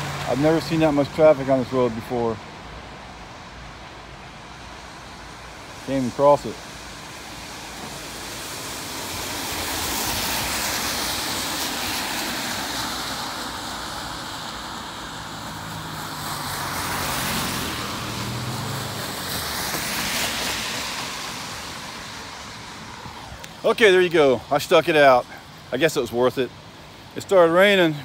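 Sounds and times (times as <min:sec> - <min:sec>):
vehicle engine hum: 0:00.0 - 0:23.7
cars passing on wet road: 0:00.0 - 0:28.0.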